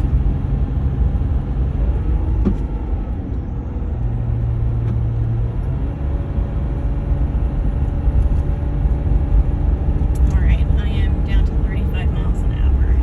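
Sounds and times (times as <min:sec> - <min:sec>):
low hum: 0:00.0 - 0:13.0
truck engine and road noise: 0:00.0 - 0:13.0.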